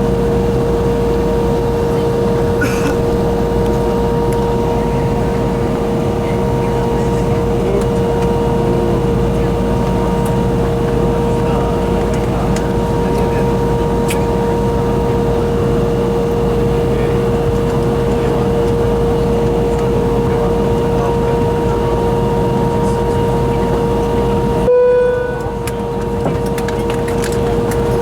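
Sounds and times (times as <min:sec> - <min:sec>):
jet engine idling whine: 0:00.0 - 0:28.0.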